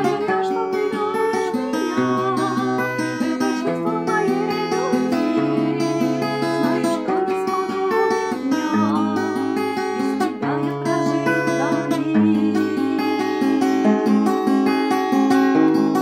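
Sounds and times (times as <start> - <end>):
nylon-string guitar picking chords: 0.0 - 16.0.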